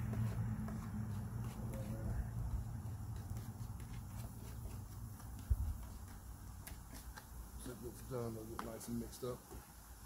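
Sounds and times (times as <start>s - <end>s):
utensil scraping on a griddle: 0.0s - 9.8s
steady low hum: 0.0s - 10.0s.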